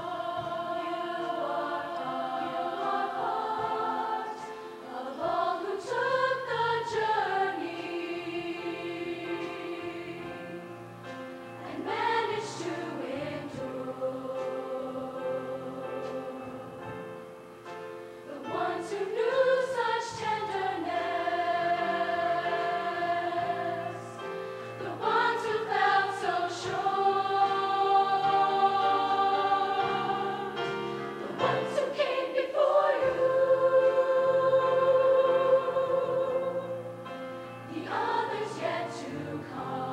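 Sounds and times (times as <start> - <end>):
choir singing held chords: 0.0 - 39.9.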